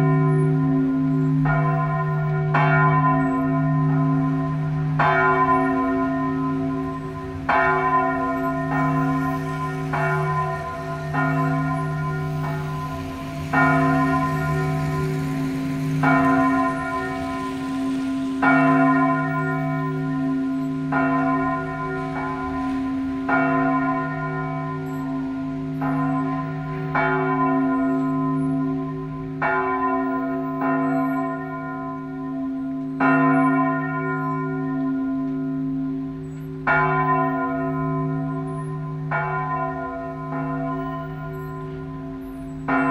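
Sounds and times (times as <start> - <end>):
church bells tolling: 0.0 - 42.9.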